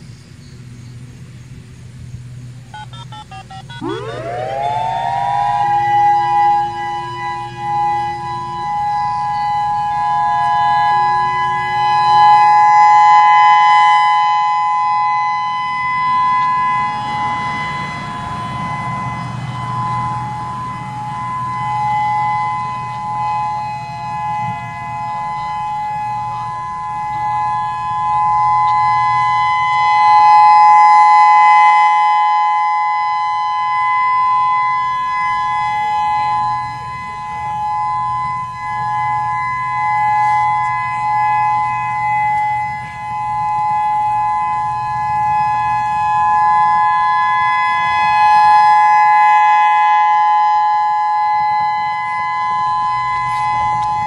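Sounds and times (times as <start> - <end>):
electronic warning siren: 2.2 - 54.0.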